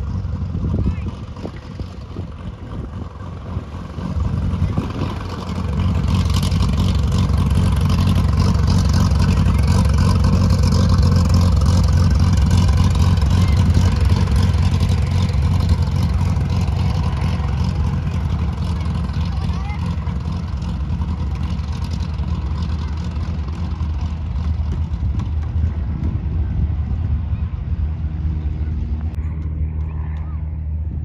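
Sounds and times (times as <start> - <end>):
propeller plane engine drone: 0.0 - 31.0.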